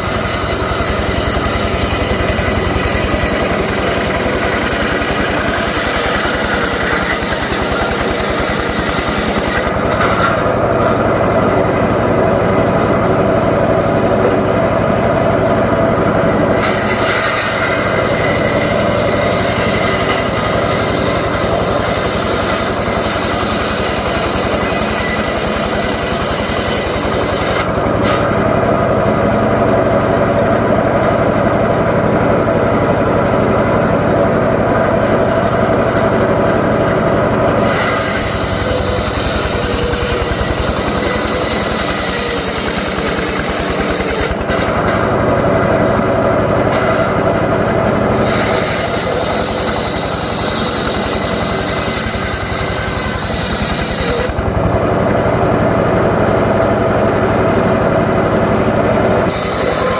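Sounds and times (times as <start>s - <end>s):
engine saw cutting wood: 0.0s - 59.9s.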